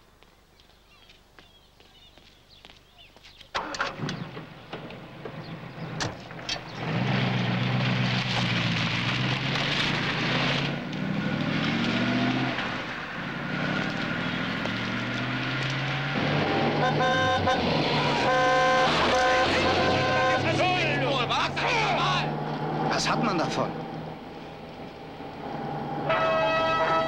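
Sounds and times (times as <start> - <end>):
sports car engine accelerating: 4.0 - 27.0.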